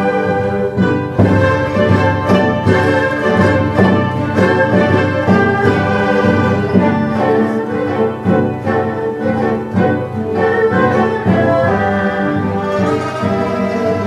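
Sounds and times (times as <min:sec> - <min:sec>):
bowed string melody: 0:00.0 - 0:14.0
traditional orchestra playing: 0:00.0 - 0:14.0.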